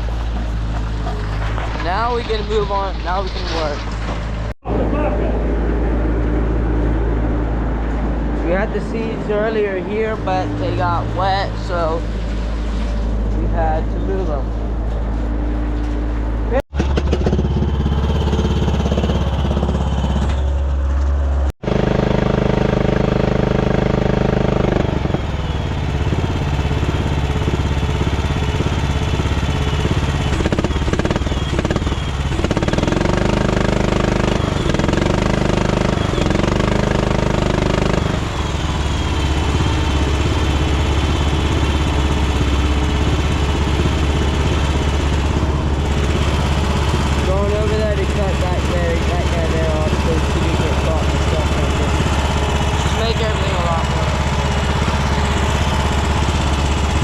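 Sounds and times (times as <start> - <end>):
farm vehicle engine running: 0.0 - 57.0.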